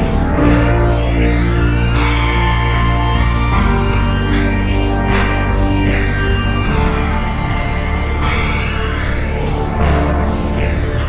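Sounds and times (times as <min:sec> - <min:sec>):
party music with deep bass: 0:00.0 - 0:11.0.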